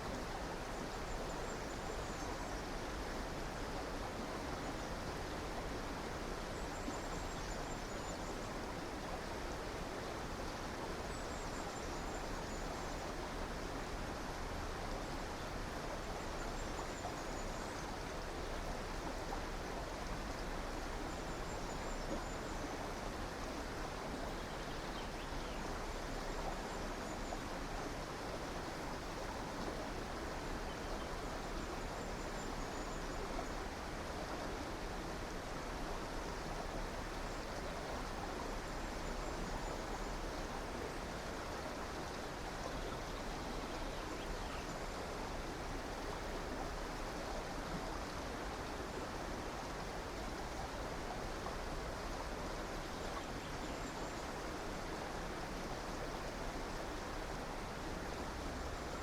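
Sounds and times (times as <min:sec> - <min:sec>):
flowing river: 0:00.0 - 0:59.0.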